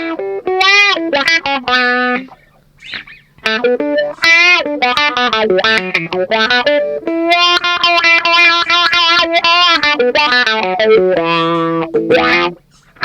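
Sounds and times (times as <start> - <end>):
electric guitar with wah: 0.0 - 13.0.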